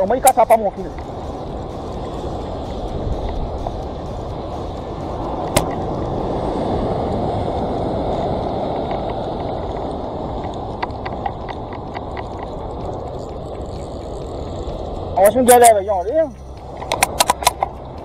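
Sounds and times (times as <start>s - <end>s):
ocean surf over rocks: 0.0s - 18.0s.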